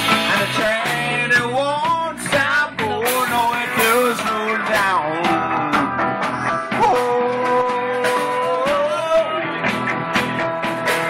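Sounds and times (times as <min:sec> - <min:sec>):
drums: 0:00.0 - 0:11.0
electric guitar: 0:00.0 - 0:11.0
upright bass: 0:00.0 - 0:11.0.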